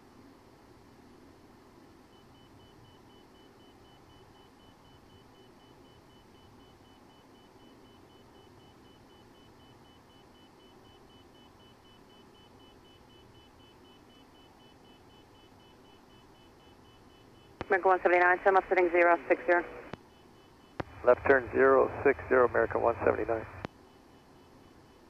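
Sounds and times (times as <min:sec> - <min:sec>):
faint cockpit background noise: 0:00.0 - 0:25.0.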